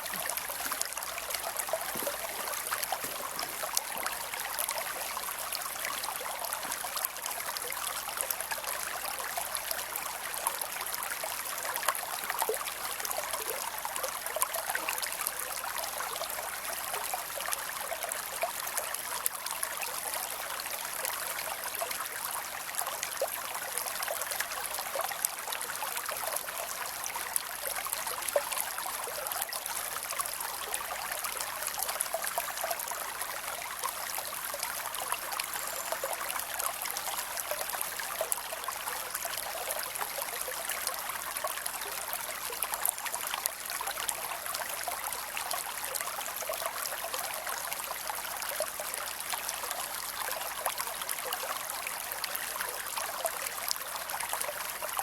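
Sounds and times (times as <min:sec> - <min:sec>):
creek flowing over rocks: 0:00.0 - 0:55.0.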